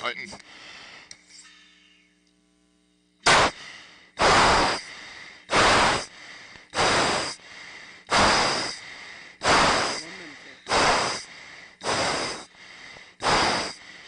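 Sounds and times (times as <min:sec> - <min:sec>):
forceful breaths through mask: 0:00.4 - 0:01.1, 0:03.2 - 0:14.0.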